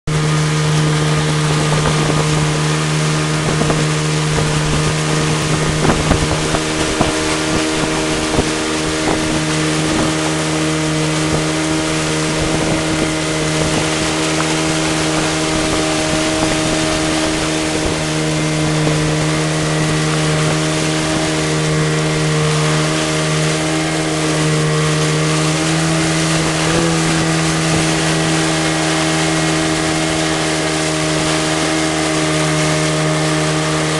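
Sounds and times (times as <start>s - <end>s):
motorboat engine running: 0.0s - 33.9s
rush of wind and water: 0.0s - 33.9s
wind buffeting microphone: 0.1s - 33.9s.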